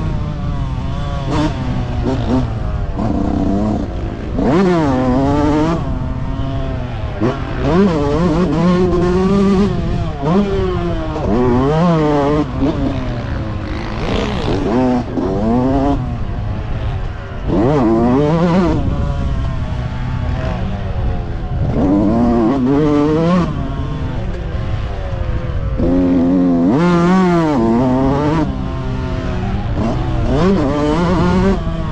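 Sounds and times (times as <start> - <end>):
motocross engines revving: 0.0 - 31.9.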